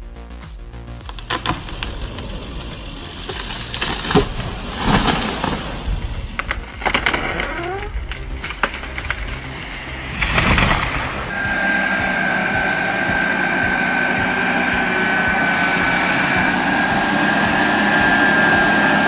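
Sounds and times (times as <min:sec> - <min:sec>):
high whine: 0:00.0 - 0:19.0
large engine running: 0:01.0 - 0:19.0.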